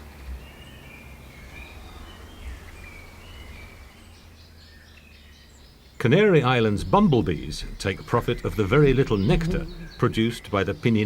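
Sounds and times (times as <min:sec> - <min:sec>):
faint bird calls: 0:00.0 - 0:11.0
low background rumble: 0:00.0 - 0:11.0.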